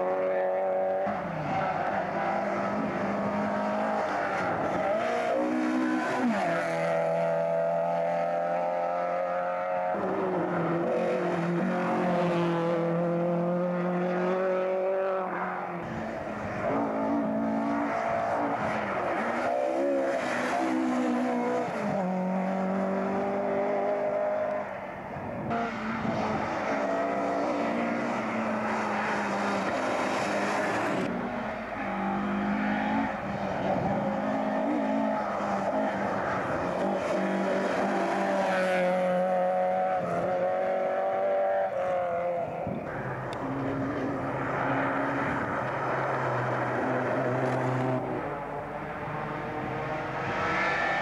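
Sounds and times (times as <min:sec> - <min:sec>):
rally car approaching: 0:00.0 - 0:51.0
rally car passing at speed: 0:00.0 - 0:51.0.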